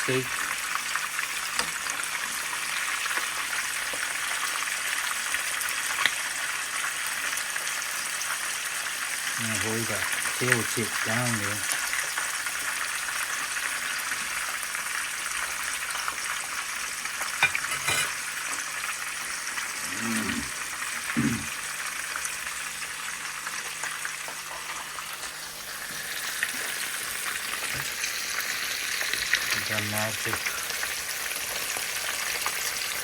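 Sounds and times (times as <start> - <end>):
fish sizzling in hot oil: 0.0 - 33.0.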